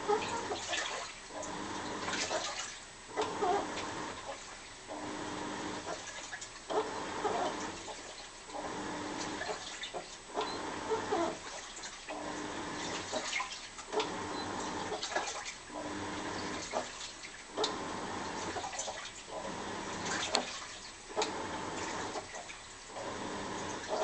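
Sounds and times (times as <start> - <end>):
water sloshing: 0.0 - 4.7, 5.8 - 6.7, 7.3 - 22.7
washing machine motor humming: 0.0 - 24.0.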